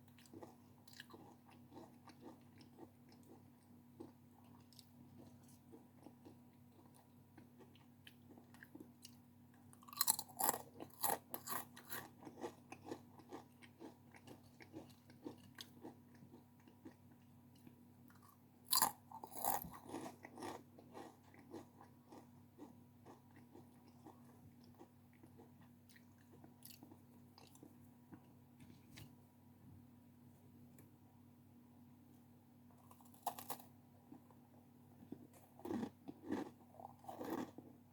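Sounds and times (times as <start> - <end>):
crunchy chewing: 0.0 - 28.3, 32.8 - 34.4, 35.0 - 37.8.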